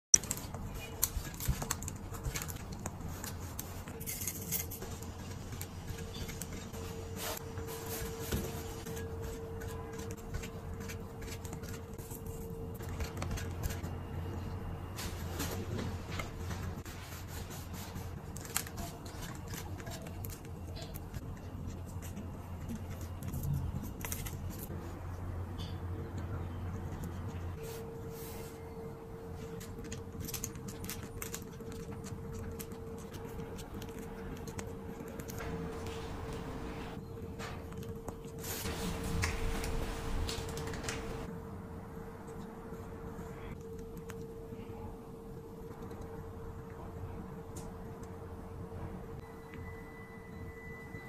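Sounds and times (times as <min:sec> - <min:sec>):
faint steady hum: 0:00.2 - 0:51.0.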